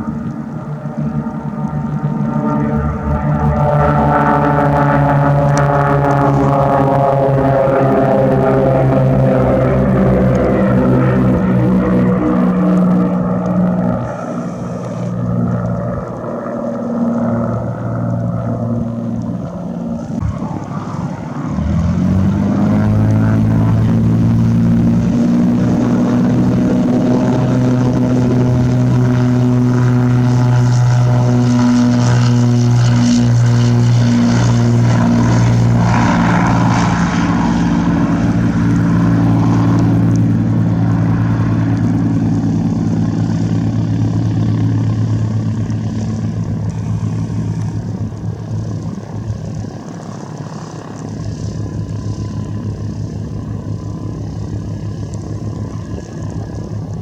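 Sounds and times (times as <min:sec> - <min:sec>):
propeller airplane droning: 0:00.0 - 0:57.0.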